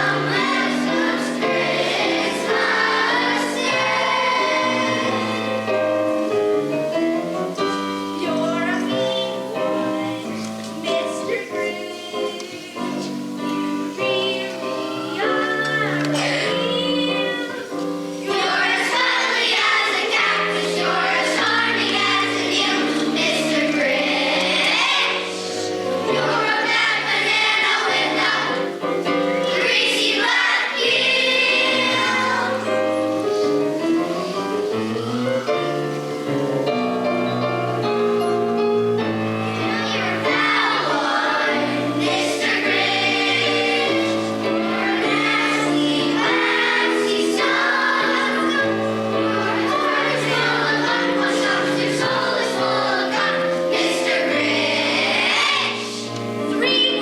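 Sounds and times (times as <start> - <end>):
choir singing: 0.0 - 36.5, 38.9 - 57.0.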